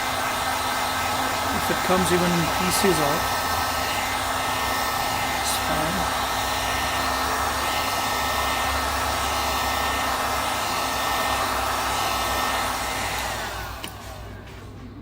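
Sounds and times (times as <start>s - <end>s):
heat gun blowing: 0.0s - 14.4s
fan winding down whine: 0.0s - 15.0s.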